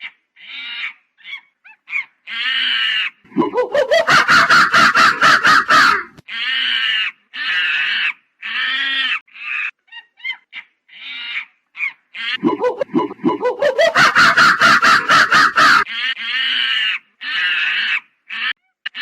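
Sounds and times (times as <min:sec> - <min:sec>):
monkey chattering and crying: 0:00.4 - 0:19.0.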